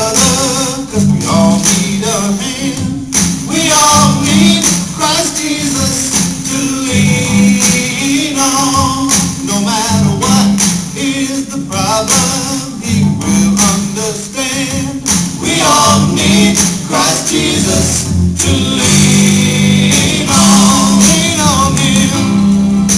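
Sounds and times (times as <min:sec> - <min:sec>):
drums and tambourine beat: 0:00.0 - 0:11.2, 0:11.8 - 0:12.6, 0:13.2 - 0:22.9
person singing: 0:00.0 - 0:22.9.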